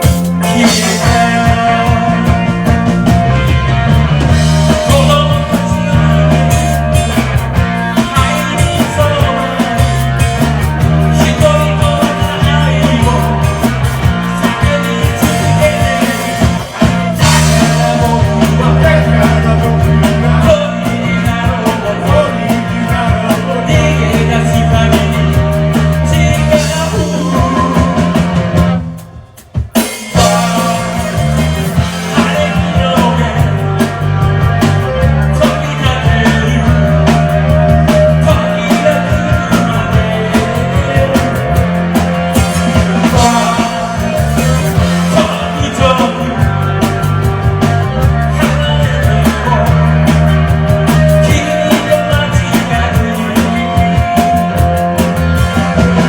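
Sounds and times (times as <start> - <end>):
rock band playing loud: 0.0 - 56.0.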